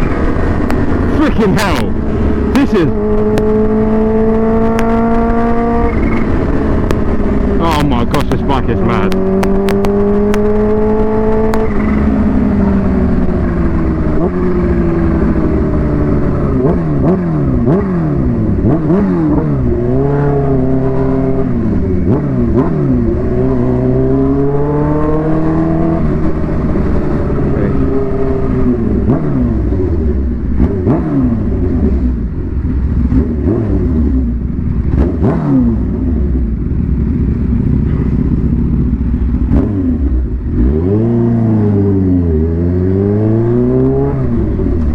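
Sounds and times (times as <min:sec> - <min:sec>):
motorcycle engine accelerating and shifting: 0:00.0 - 0:44.9.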